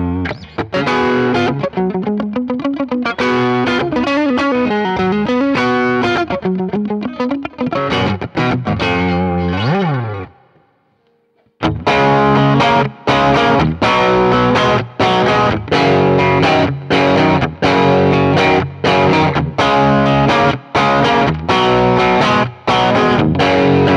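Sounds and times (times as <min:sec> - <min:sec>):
strummed guitar chords: 0:00.0 - 0:10.6, 0:11.6 - 0:23.9
overdriven electric guitar: 0:00.0 - 0:23.9.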